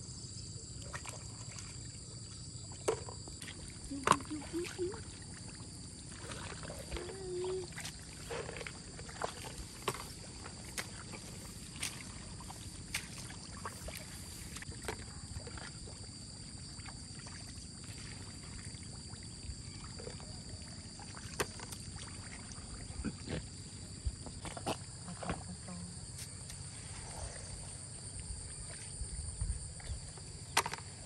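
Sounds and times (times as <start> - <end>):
high insect drone: 0.0 - 31.0
splashing in muddy water: 0.7 - 31.0.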